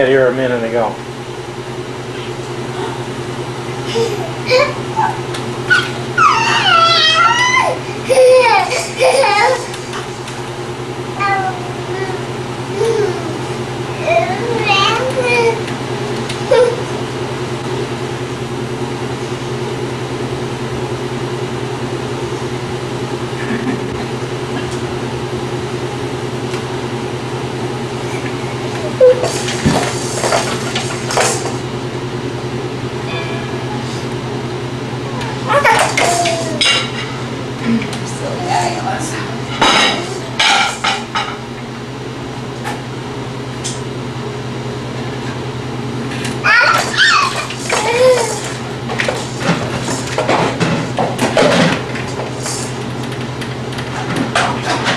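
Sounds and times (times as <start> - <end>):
low hum: 0.4 - 46.4.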